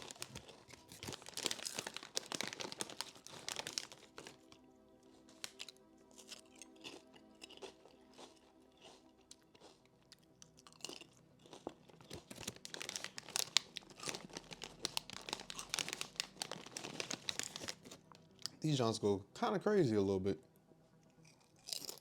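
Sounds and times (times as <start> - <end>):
potato chips crunching: 0.0 - 4.6, 5.2 - 18.7, 21.2 - 22.0
soft background music: 0.0 - 22.0.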